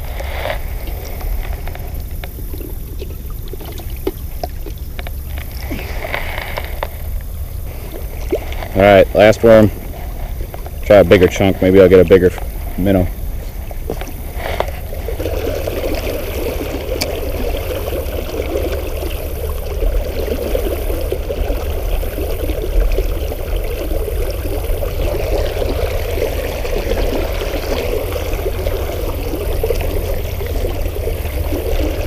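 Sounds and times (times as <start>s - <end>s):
river water rippling: 0.0s - 32.0s.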